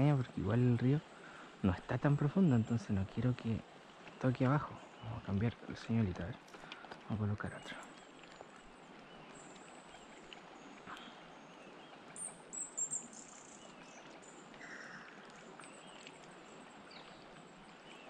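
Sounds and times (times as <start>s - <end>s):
river water running: 0.0s - 18.0s
small birds chirping: 0.0s - 18.0s.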